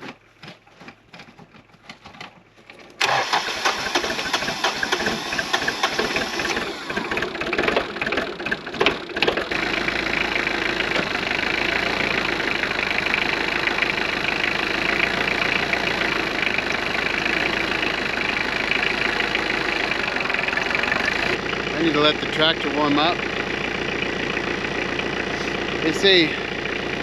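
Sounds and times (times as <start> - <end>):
diesel tractor engine starting: 1.0 - 27.0.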